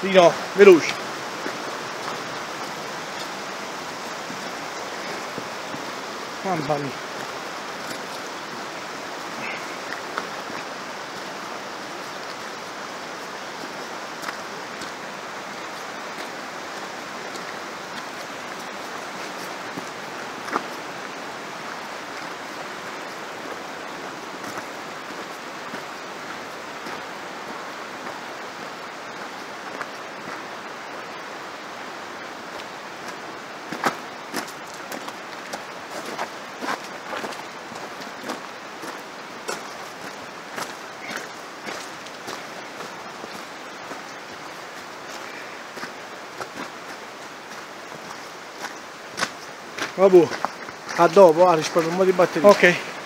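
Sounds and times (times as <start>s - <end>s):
mountain stream rushing: 0.0s - 53.0s.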